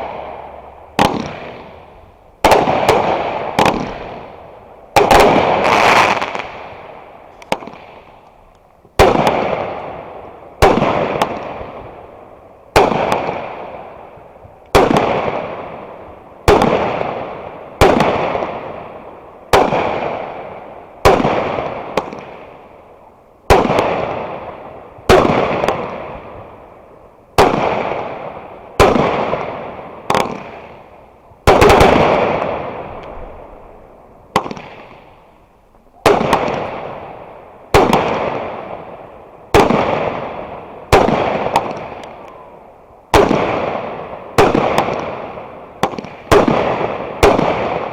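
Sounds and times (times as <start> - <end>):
fireworks banging: 0.0 - 22.7, 23.4 - 47.9.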